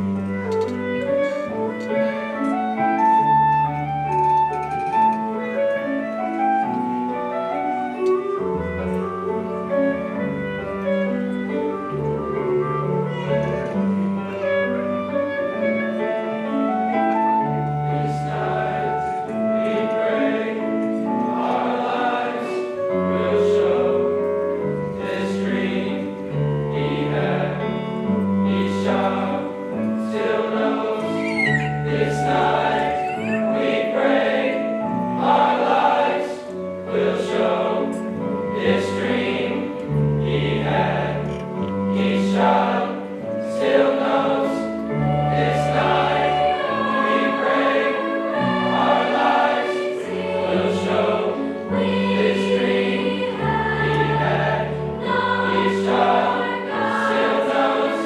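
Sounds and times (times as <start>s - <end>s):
choir singing in harmony: 0.0s - 58.0s
instrumental accompaniment: 0.0s - 58.0s.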